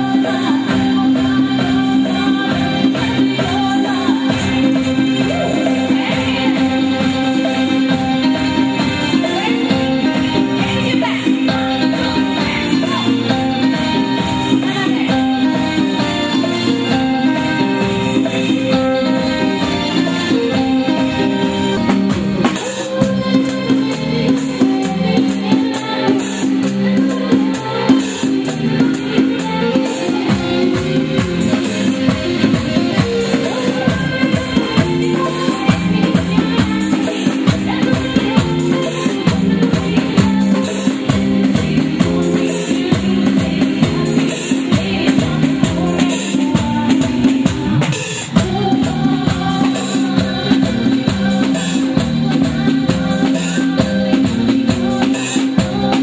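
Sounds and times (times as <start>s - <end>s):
drums and hand percussion: 0.0s - 56.0s
live band playing: 0.0s - 56.0s.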